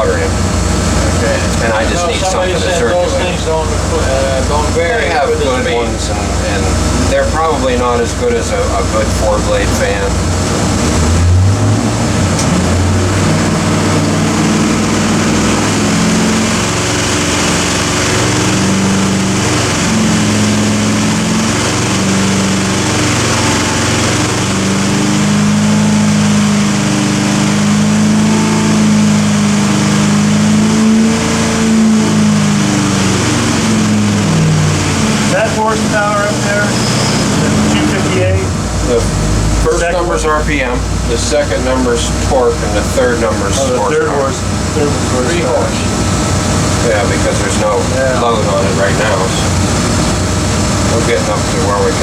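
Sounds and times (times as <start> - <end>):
engine revving up and down: 0.0 - 52.0.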